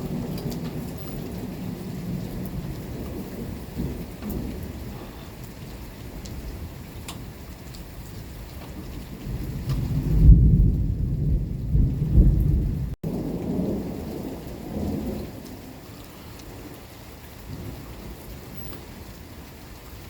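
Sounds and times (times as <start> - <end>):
rolling thunder: 0.0 - 20.0
steady rain: 0.0 - 20.0.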